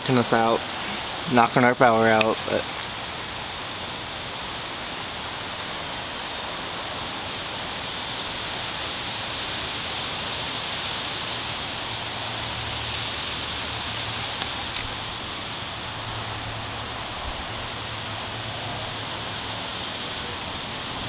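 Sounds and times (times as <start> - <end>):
storm wind rushing through trees: 0.0 - 21.0.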